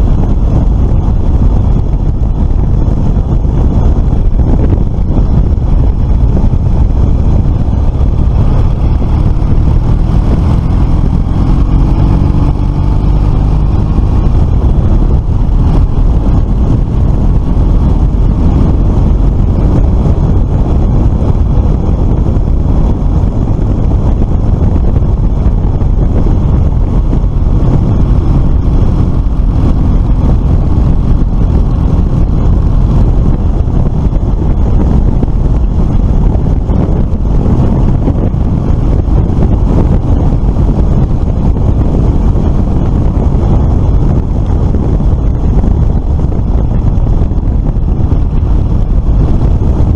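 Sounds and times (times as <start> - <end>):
wind rush on microphone: 0.0 - 49.9.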